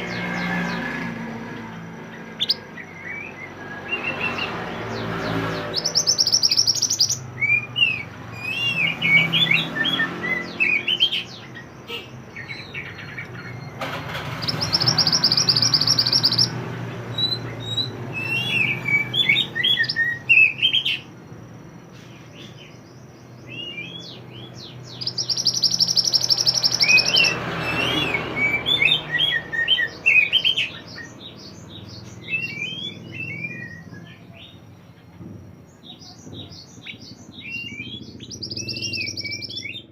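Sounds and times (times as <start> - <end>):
bird chirping and whistling: 0.0 - 21.1, 22.0 - 39.9
high buzzy bird trill: 0.0 - 34.7, 35.8 - 39.9.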